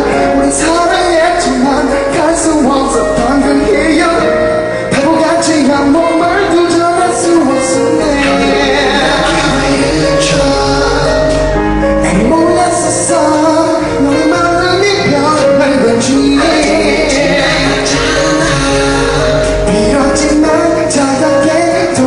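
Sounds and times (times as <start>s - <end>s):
instrumental accompaniment: 0.0s - 22.0s
man singing into microphone: 0.0s - 22.0s.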